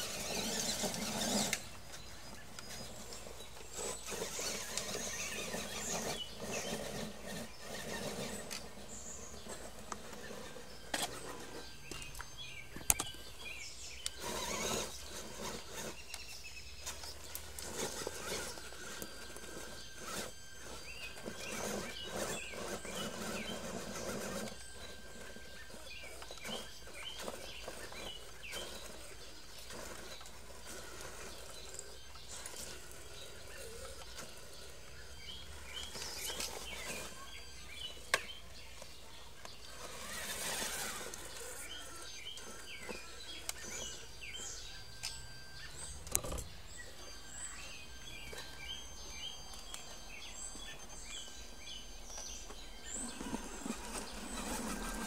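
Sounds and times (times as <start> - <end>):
tyres scrabbling over dirt: 0.0 - 51.4, 52.0 - 55.0
birds chirping: 0.0 - 55.0
rc truck electric motors: 0.0 - 55.0.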